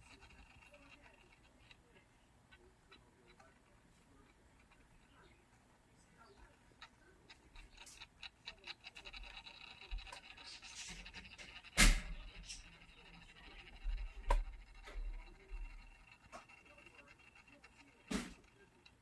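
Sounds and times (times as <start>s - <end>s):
motorised turntable ticking: 0.0s - 5.4s, 6.2s - 19.0s.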